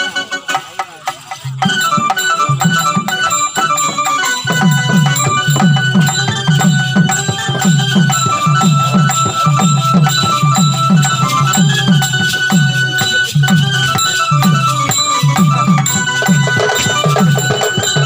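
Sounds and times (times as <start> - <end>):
folk band melody: 0.0 - 18.0
pitched drum beating: 0.0 - 18.0.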